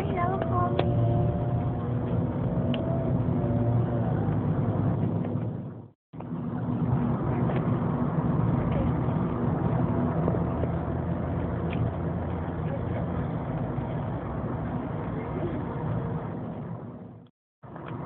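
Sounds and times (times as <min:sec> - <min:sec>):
road noise: 0:00.0 - 0:18.0
vehicle engine hum: 0:00.0 - 0:18.0.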